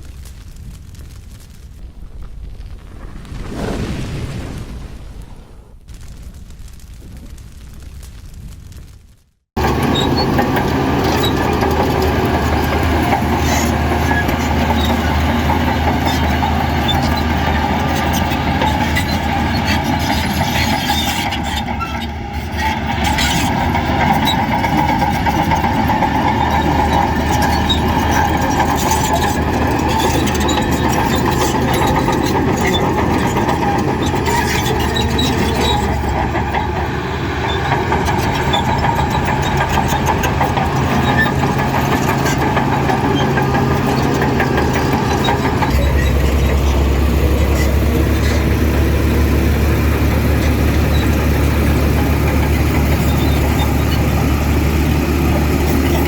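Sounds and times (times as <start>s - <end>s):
heavy diesel engine running: 9.6s - 56.0s.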